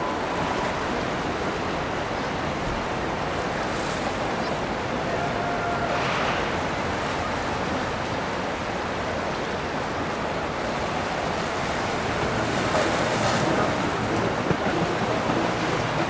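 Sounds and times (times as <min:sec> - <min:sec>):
rushing water: 0:00.0 - 0:16.0
wind: 0:00.0 - 0:16.0.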